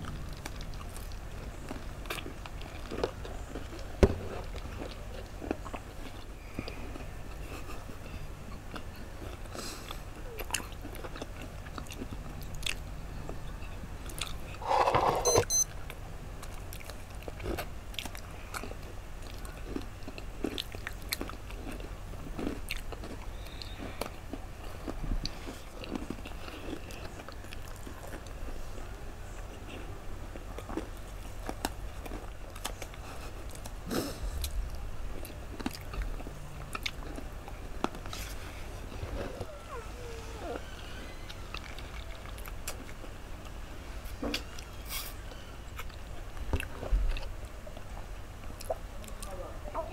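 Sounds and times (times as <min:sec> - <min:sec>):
crunching and chewing cookies: 0:00.0 - 0:49.9.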